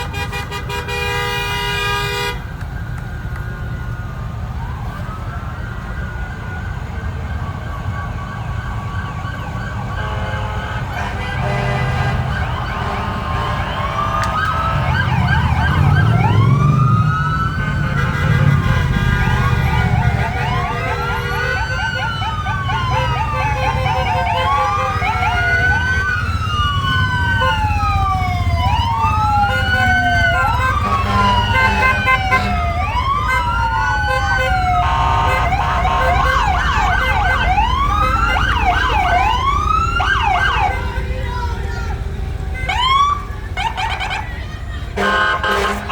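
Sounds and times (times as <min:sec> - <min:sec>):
fire truck engines rumbling: 0:00.0 - 0:45.9
sirens wailing: 0:00.0 - 0:45.9.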